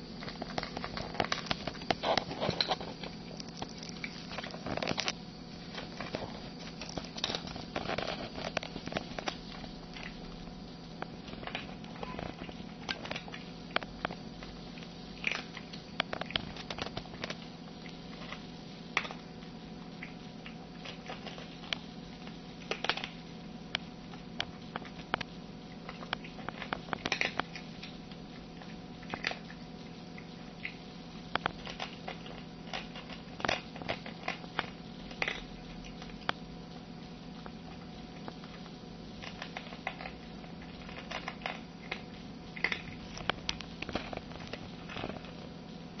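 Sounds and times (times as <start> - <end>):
cat chewing and licking: 0.0 - 46.0
steady low hum: 0.0 - 46.0.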